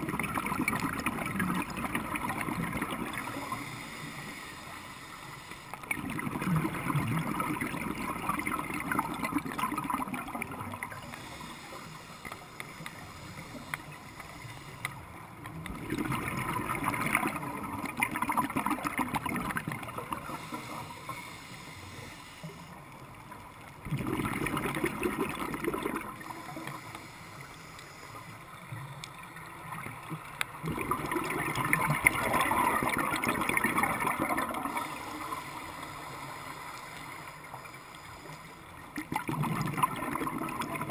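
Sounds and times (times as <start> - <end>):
regulator bubbles gurgling underwater: 0.0 - 27.6, 28.4 - 40.9.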